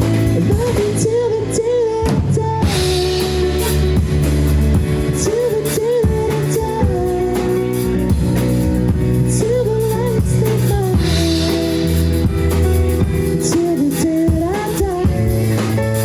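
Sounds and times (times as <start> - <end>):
woman singing: 0.0 - 4.3, 5.0 - 8.2, 9.0 - 12.4, 13.3 - 16.0
drums: 0.0 - 16.0
guitar: 0.0 - 16.0.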